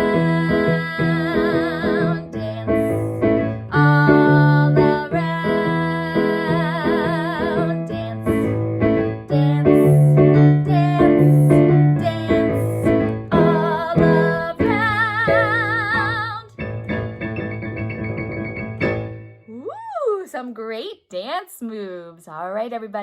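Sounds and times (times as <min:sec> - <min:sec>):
keyboard and piano music: 0:00.0 - 0:19.5.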